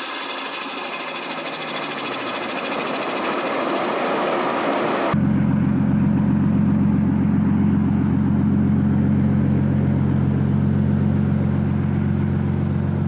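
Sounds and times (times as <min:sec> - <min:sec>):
car engine droning steadily: 0:00.0 - 0:13.0.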